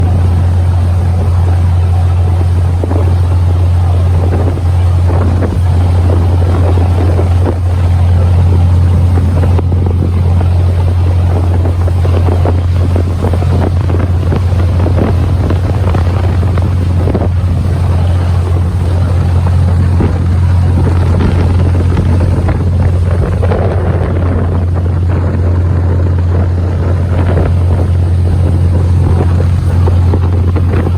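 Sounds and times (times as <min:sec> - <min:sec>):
motorboat engine droning: 0:00.0 - 0:30.9
wind buffeting microphone: 0:00.0 - 0:30.9.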